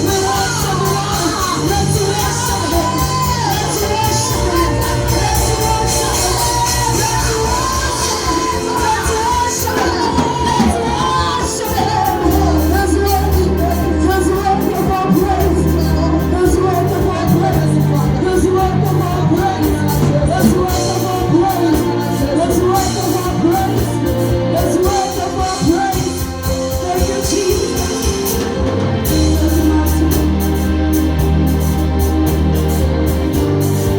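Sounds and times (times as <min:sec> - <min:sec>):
voices singing: 0:00.0 - 0:31.2
gospel worship music: 0:00.0 - 0:33.9.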